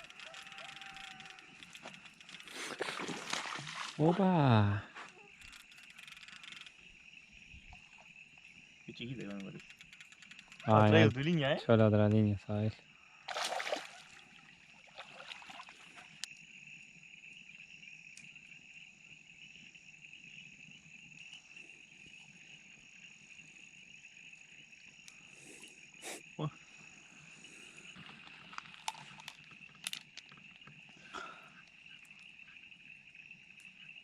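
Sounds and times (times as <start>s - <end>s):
frogs calling: 0.0s - 34.0s.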